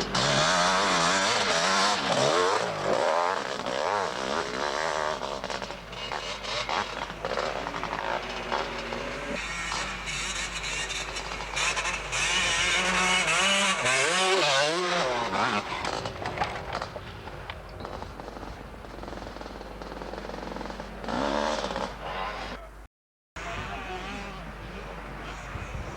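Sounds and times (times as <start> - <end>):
motocross engines revving: 0.0 - 25.9.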